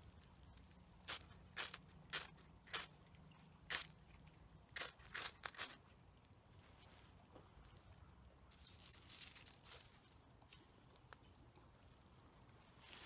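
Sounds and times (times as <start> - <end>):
rustling and crackling twigs: 0.0 - 13.0.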